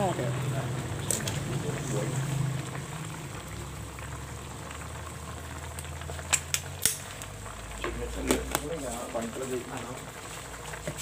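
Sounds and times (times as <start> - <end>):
food simmering in a pan: 0.0 - 11.0.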